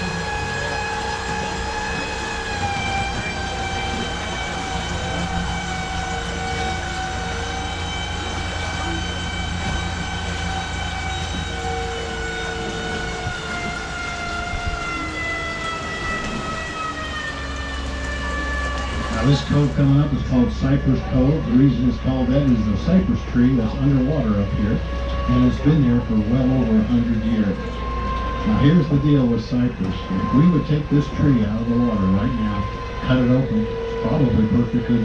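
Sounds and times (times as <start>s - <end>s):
boat motor whining: 0.0s - 35.0s.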